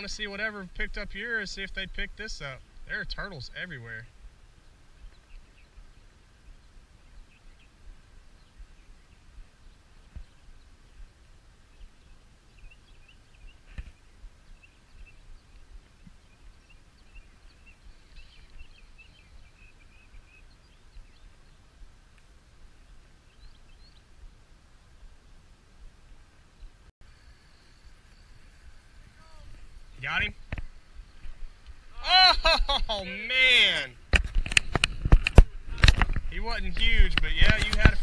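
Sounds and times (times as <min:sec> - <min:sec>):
distant birds chirping: 0:00.0 - 0:38.0.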